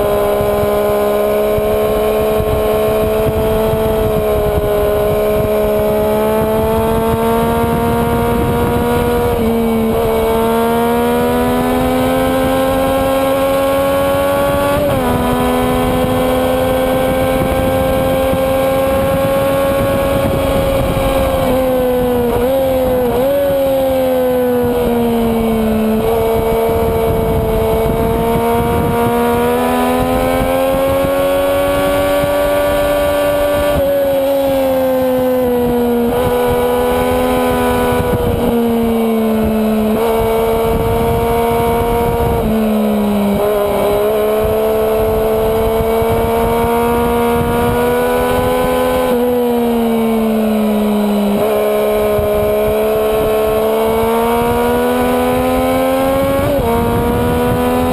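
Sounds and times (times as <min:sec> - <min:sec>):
motorcycle engine at high revs: 0:00.0 - 0:57.9
rush of wind: 0:00.0 - 0:57.9.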